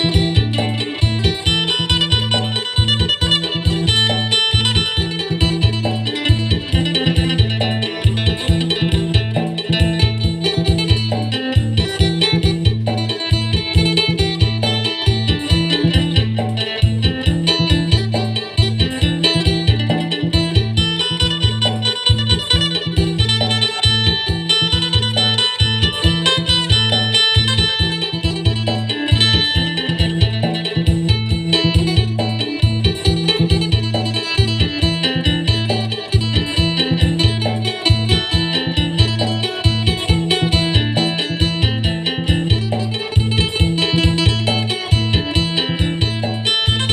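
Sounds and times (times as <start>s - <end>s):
backing beat with bass line: 0.0s - 46.9s
plucked lute melody: 0.0s - 46.9s.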